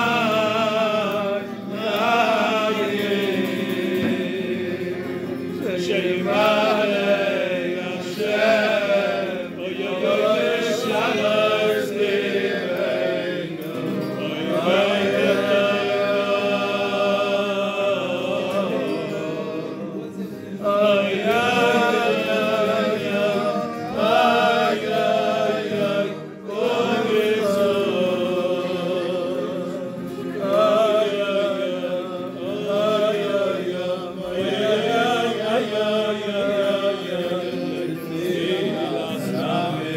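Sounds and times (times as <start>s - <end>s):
man singing: 0.0s - 12.0s, 13.8s - 39.9s.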